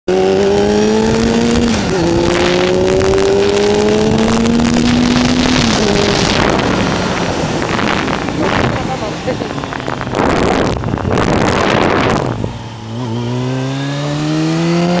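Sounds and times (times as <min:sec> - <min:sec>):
motorcycle engine pulling uphill: 0:00.1 - 0:15.0
wind buffeting microphone: 0:00.4 - 0:13.4.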